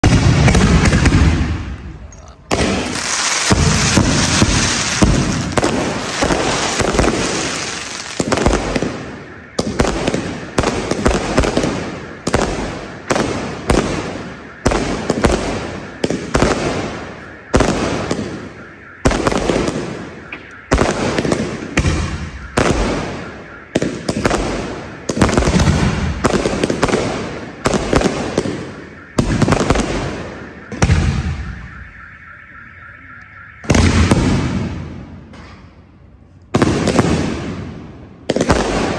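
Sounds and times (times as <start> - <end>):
fireworks crackling: 0.0 - 32.0
fireworks bangs: 0.0 - 32.8, 33.4 - 35.9, 36.5 - 38.9.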